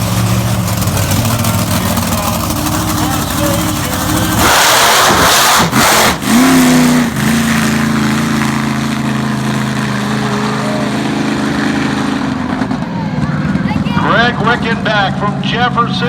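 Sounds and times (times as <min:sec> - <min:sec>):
monster truck engine revving and idling: 0:00.0 - 0:16.0.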